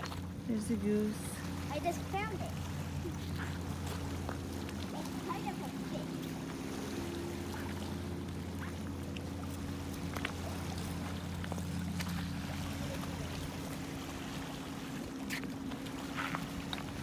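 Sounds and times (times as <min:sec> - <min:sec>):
motorboat engine droning: 0:00.0 - 0:17.0.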